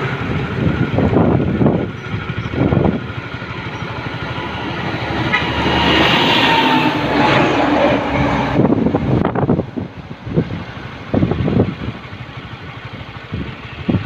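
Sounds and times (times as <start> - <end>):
heavy truck passing: 0.0 - 14.0.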